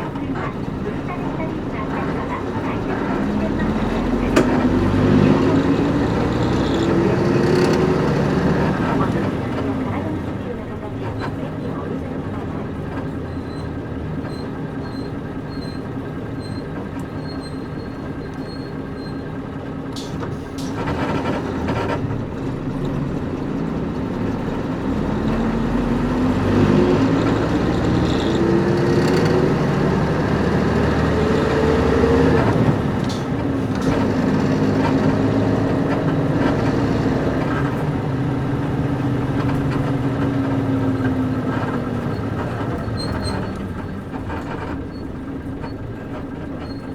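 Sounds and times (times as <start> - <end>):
bus diesel engine: 0.0 - 46.9.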